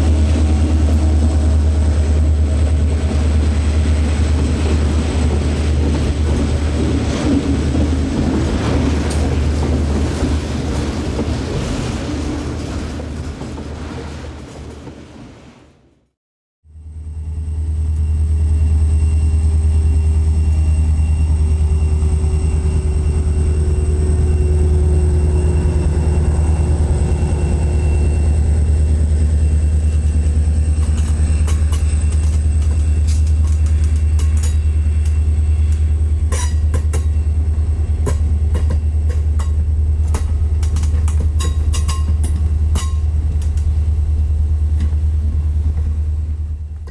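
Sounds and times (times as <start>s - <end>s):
train rumbling: 0.0s - 16.0s, 16.7s - 46.9s.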